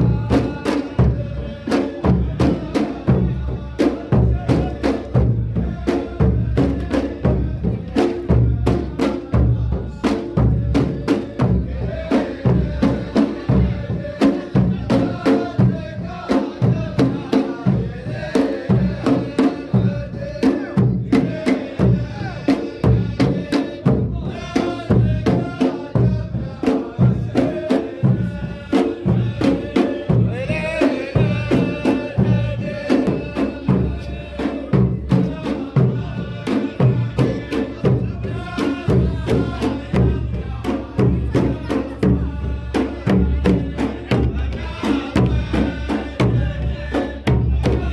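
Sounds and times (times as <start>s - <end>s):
drums beating steady rhythm: 0.0s - 47.9s
men chanting in unison: 0.0s - 47.9s.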